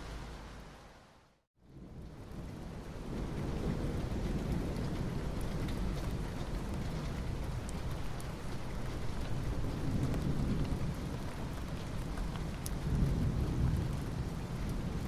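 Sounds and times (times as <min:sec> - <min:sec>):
soft rain on asphalt: 0:00.0 - 0:15.0.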